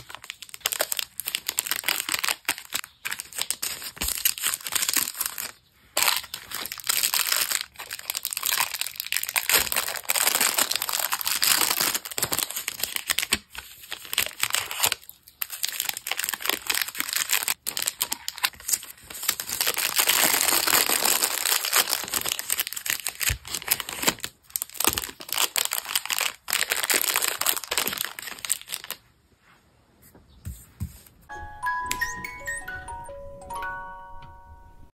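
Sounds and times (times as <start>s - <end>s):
paper and sticker sheets crinkling: 0.0s - 29.1s.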